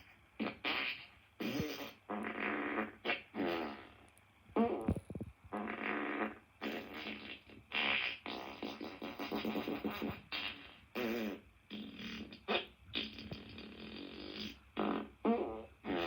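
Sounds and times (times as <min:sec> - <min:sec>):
sputtering fart sounds: 0:00.0 - 0:16.0.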